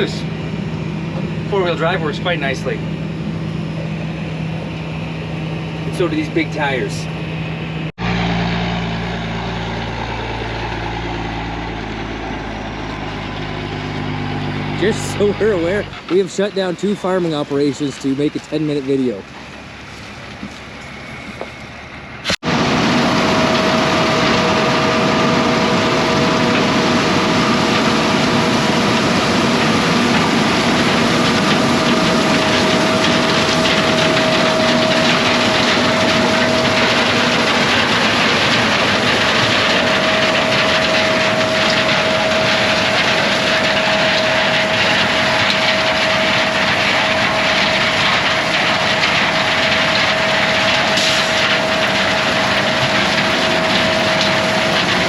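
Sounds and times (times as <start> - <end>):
heavy farm machinery running: 0.0 - 55.0.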